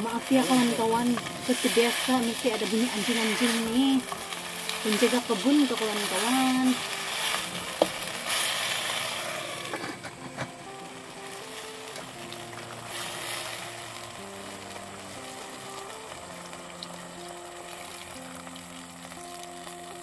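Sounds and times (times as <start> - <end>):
soft background music: 0.0 - 20.0
vegetables sizzling in a pot: 0.0 - 20.0.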